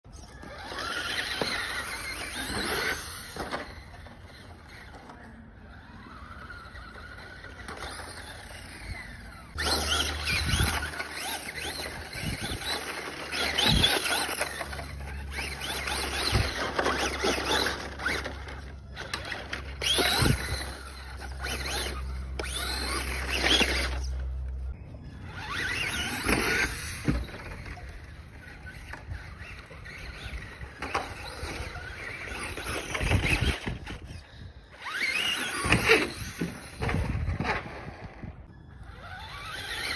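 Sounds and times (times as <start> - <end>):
toy truck motor whining: 0.1 - 39.9.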